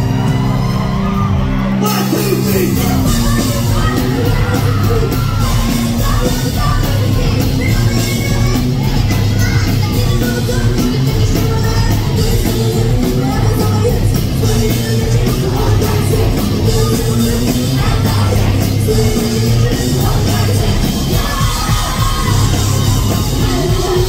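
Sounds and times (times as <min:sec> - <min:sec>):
rock band playing live: 0:00.0 - 0:24.0
woman singing: 0:03.1 - 0:24.0.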